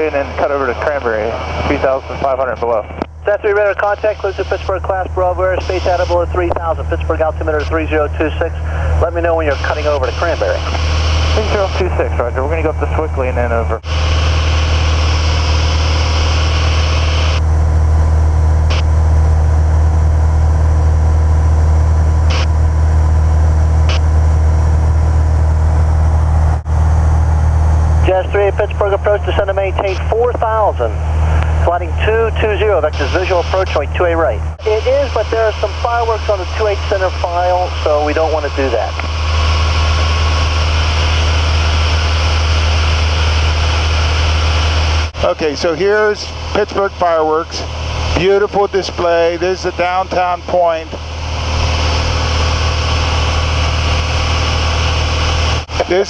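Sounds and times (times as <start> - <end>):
aircraft piston engine droning: 0.0 - 56.0.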